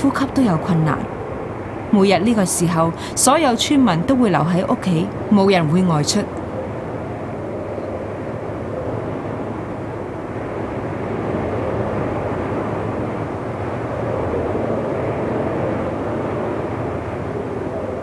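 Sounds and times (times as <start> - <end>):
wind blowing sand: 0.0 - 18.0.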